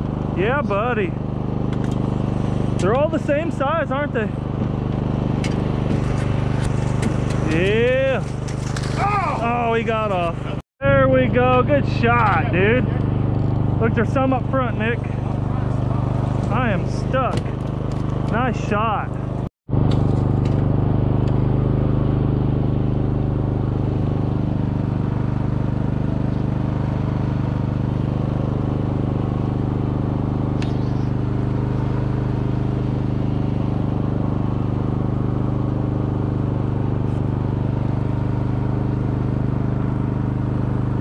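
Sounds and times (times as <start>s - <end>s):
boat engine humming: 0.0s - 41.0s.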